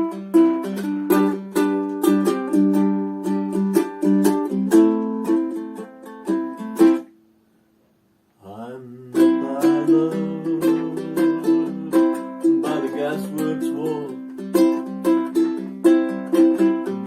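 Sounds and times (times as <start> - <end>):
ukulele strumming chords: 0.0 - 7.3, 8.9 - 17.0.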